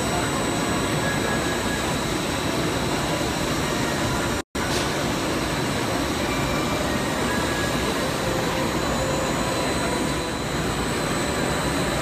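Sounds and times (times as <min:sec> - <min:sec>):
exhibition hall machinery din: 0:00.0 - 0:12.0.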